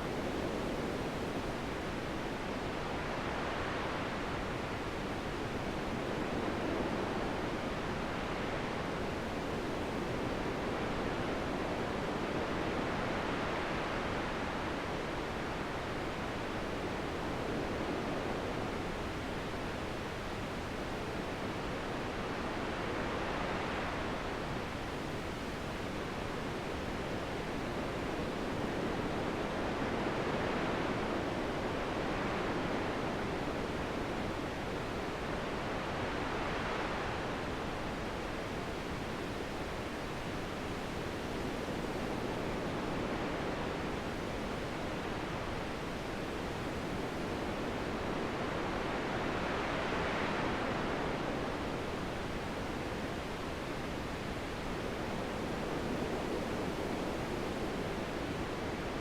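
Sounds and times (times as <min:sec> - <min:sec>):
wind blowing in gusts: 0:00.0 - 0:59.0.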